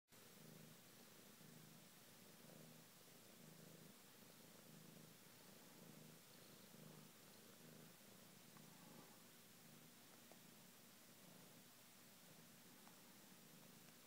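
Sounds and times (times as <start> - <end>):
cat purring: 0.1 - 14.0.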